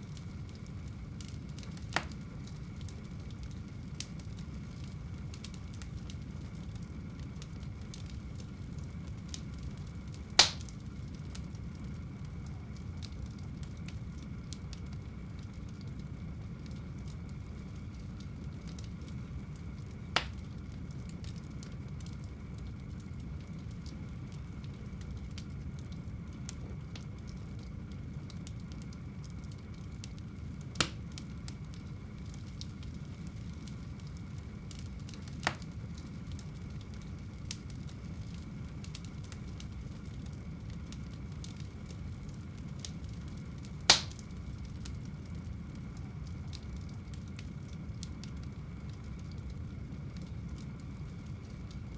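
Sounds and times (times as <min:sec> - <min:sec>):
fire flames rumbling: 0:00.0 - 0:51.9
logs crackling and popping: 0:00.1 - 0:51.9.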